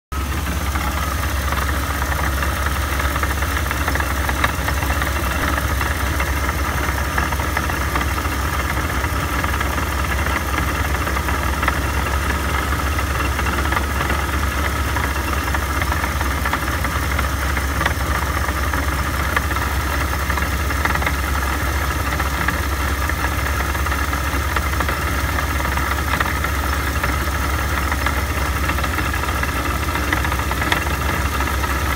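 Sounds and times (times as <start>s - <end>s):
supercharged car engine idling: 0.1s - 31.9s.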